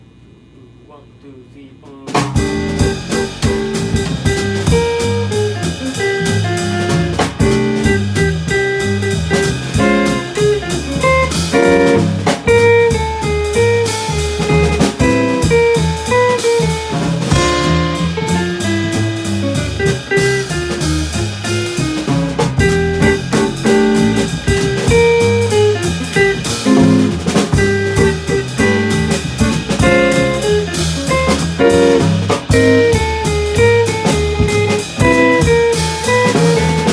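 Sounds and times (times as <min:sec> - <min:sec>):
small jazz band playing: 0:02.1 - 0:36.9.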